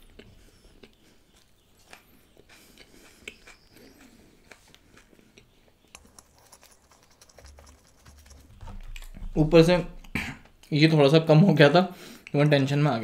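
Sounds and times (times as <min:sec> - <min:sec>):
person chewing food: 0:00.0 - 0:10.7
mouth clicks and smacks: 0:00.0 - 0:10.8.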